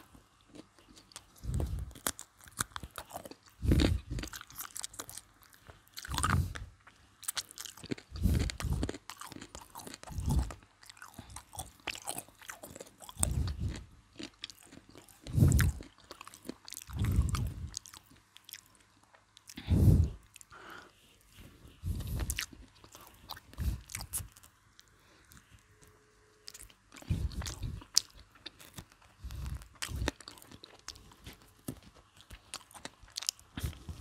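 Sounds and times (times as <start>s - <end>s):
crackling breaded crust: 0.0s - 19.7s, 20.4s - 34.0s
crunchy bites and chewing: 0.0s - 20.6s, 21.8s - 25.5s, 26.5s - 34.0s.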